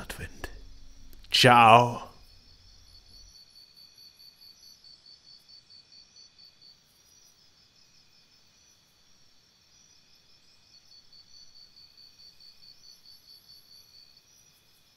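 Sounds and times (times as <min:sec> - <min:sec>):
faint insect chirping: 0:01.8 - 0:14.9.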